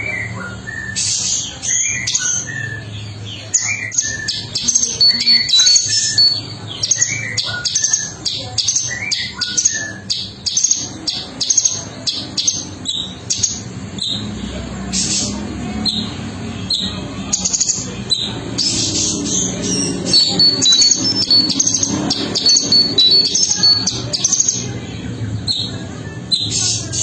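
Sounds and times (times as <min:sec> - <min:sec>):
bird singing chirps and whistles: 0:00.0 - 0:14.3, 0:15.0 - 0:24.8, 0:25.4 - 0:27.0.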